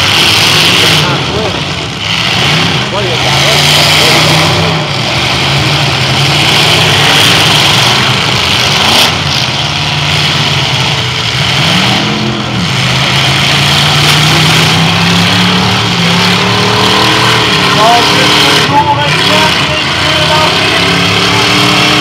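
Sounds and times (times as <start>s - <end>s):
car engines running: 0.0s - 22.0s
engine revving: 0.0s - 22.0s.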